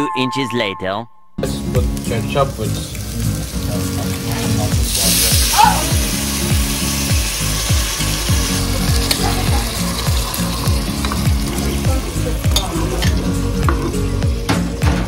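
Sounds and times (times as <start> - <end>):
background music with steady beat: 0.0 - 15.0
sauce sizzling in a pot: 1.6 - 15.0.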